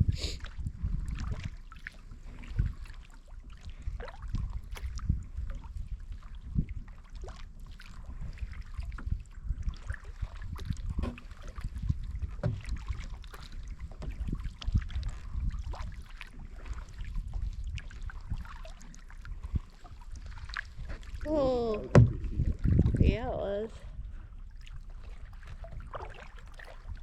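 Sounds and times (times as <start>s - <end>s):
wind on microphone: 0.0s - 27.0s
paddle splashing water: 0.1s - 27.0s.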